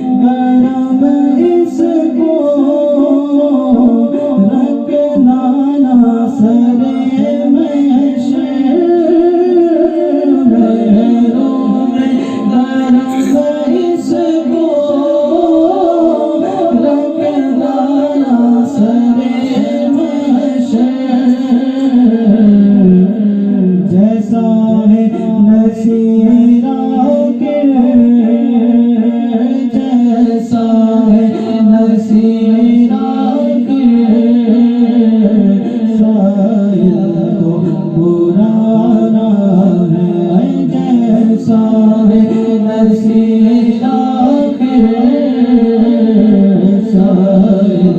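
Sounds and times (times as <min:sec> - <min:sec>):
person singing devotional melody: 0:00.0 - 0:47.9.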